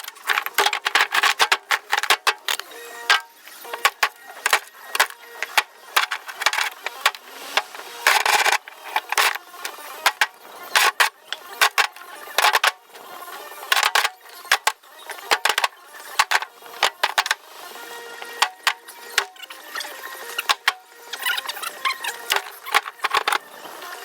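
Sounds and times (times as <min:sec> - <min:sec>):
bricks clacking together: 0:00.0 - 0:12.8, 0:13.6 - 0:17.4, 0:18.2 - 0:19.4, 0:20.4 - 0:23.4.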